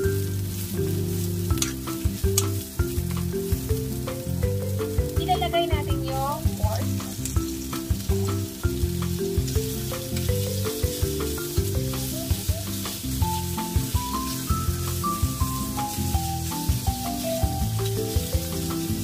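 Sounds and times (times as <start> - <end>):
background music: 0.0 - 19.0
meat and onion sizzling in pan: 0.0 - 19.0.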